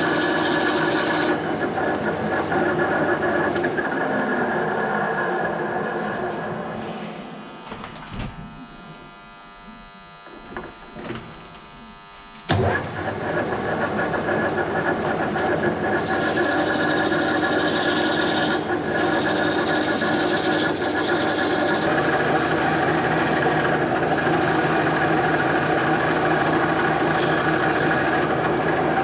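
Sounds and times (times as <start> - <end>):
tool cutting spinning workpiece: 0.0 - 7.5, 12.5 - 29.0
lathe humming: 0.0 - 29.0.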